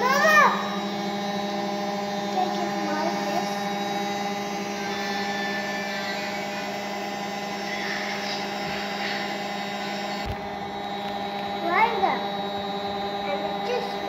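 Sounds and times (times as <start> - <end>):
household appliance humming: 0.0 - 14.0.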